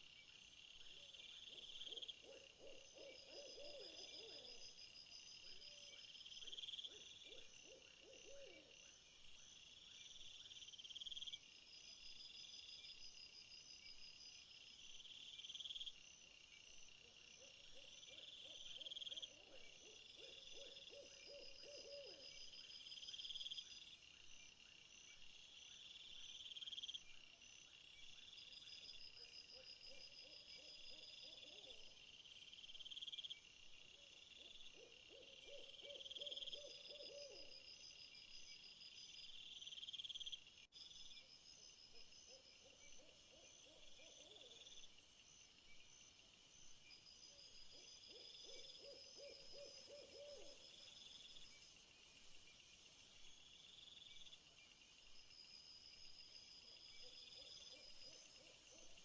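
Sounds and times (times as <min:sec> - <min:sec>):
night insects trilling: 0:00.4 - 0:59.0.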